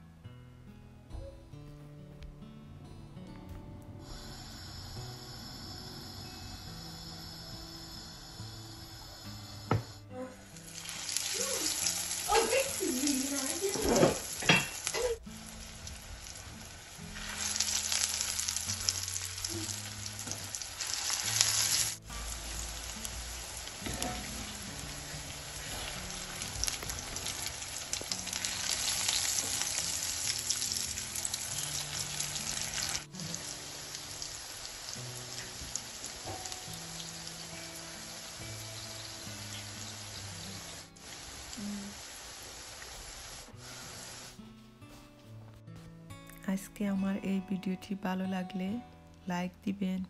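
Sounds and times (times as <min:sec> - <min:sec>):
quiet background music: 0:00.0 - 0:50.0
food sizzling in frying oil: 0:04.0 - 0:44.4.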